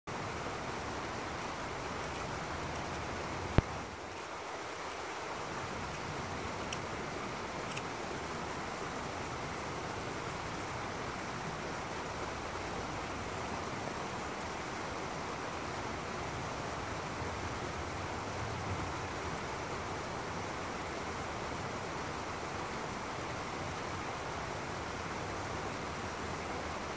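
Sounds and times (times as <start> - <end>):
water rushing over rocky cascade: 0.1 - 26.9.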